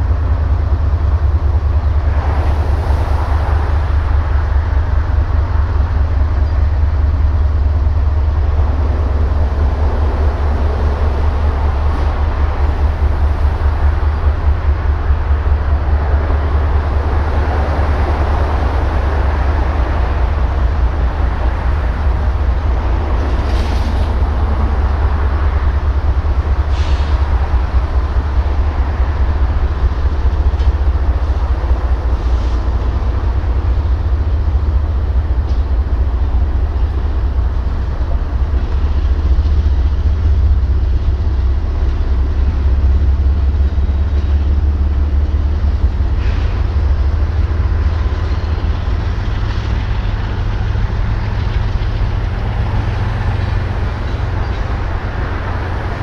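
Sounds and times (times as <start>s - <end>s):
diesel locomotive engine rumbling: 0.0s - 56.0s.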